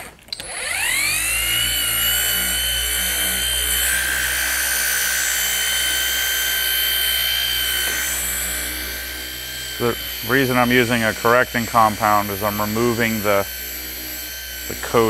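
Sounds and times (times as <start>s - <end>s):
polisher whining: 0.0s - 15.0s.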